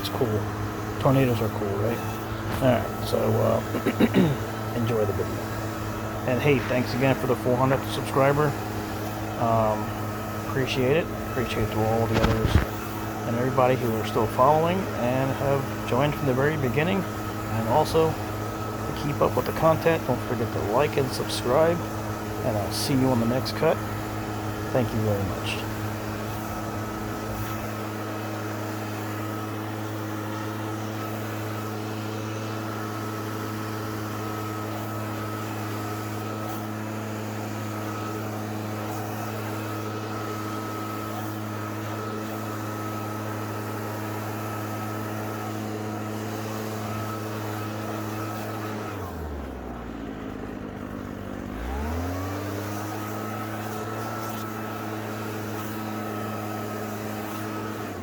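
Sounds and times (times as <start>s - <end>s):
leaf blower engine running: 0.0s - 58.0s.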